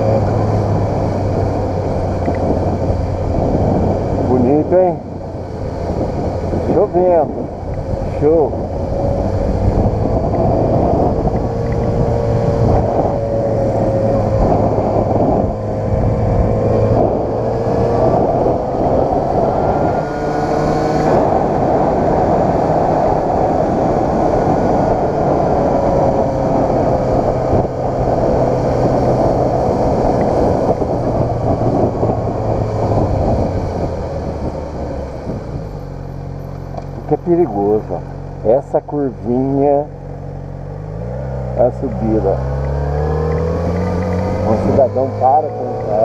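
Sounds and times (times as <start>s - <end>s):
motorcycle engine running: 0.0s - 46.0s
wind noise on microphone: 0.0s - 46.0s.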